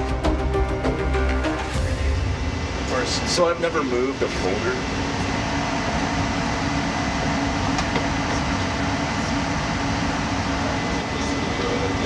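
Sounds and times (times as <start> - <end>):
air conditioning and fans hum: 0.0 - 12.0.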